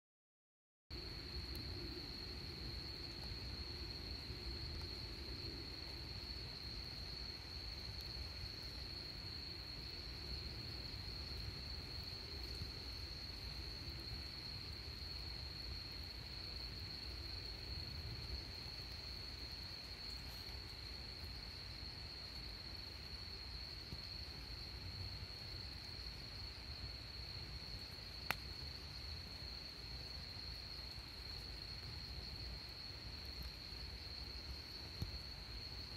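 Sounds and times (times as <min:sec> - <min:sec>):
crickets trilling: 0:01.0 - 0:35.9.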